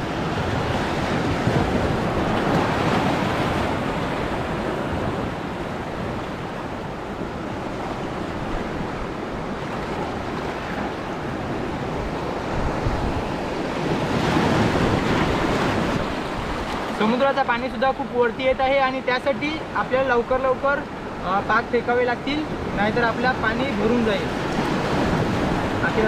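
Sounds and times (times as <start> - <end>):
sea surf washing over rocks: 0.0 - 26.0.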